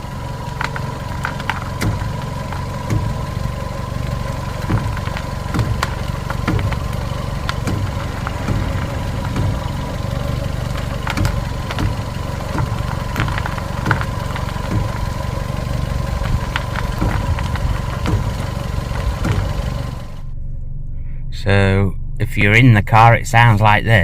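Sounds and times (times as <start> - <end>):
suspension knocks and clicks: 0.0 - 20.2
car engine idling: 0.0 - 24.0.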